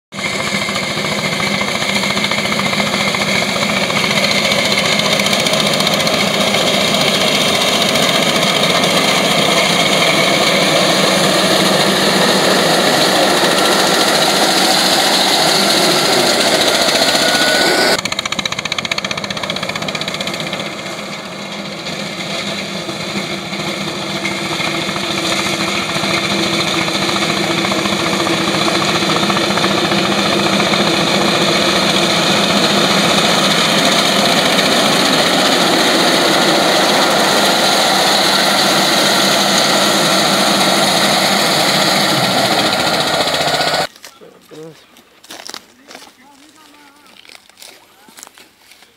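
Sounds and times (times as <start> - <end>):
tractor engine under load: 0.1 - 48.9.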